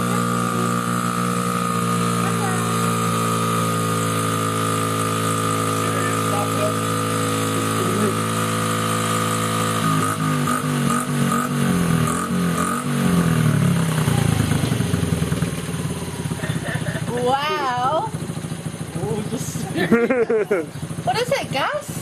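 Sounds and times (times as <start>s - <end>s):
small motorbike engine idling: 0.0s - 22.0s.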